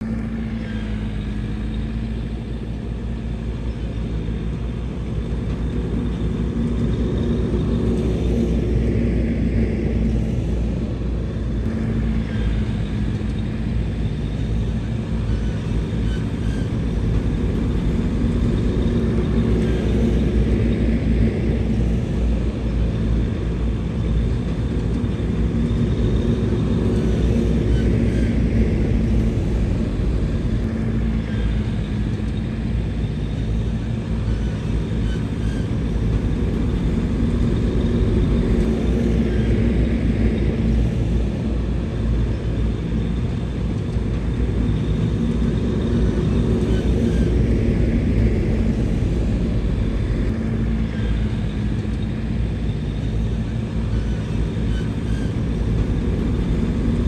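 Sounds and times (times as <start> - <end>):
heavy diesel engine rumbling: 0.0 - 57.0.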